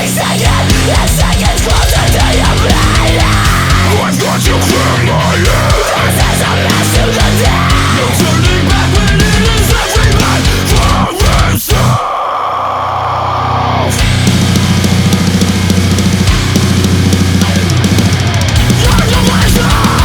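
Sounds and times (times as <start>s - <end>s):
heavy metal music with drums: 0.0s - 20.0s.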